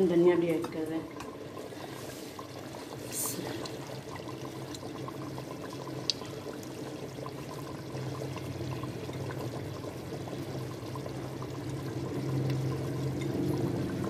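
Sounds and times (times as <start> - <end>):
curry bubbling in a pot: 0.0 - 14.0.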